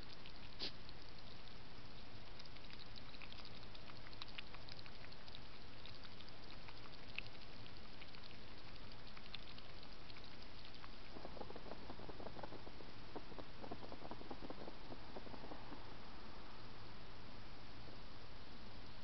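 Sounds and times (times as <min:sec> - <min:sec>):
hedgehog clicking and crackling: 0:00.0 - 0:15.5
microphone hiss: 0:00.0 - 0:19.0.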